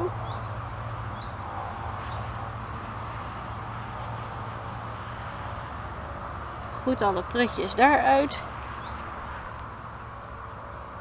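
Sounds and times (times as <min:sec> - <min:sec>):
background noise: 0:00.0 - 0:11.0.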